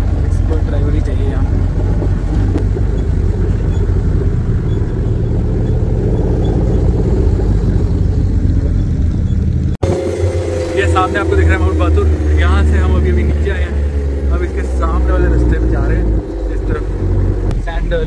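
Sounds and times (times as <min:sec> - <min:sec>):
off-road vehicle engine rumbling: 0:00.0 - 0:18.0.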